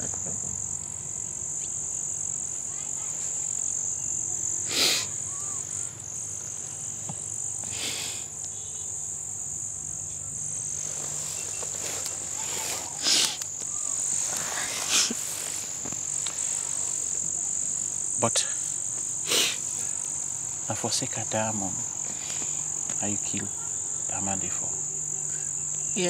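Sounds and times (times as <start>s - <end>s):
insect chorus trilling: 0.0s - 26.0s.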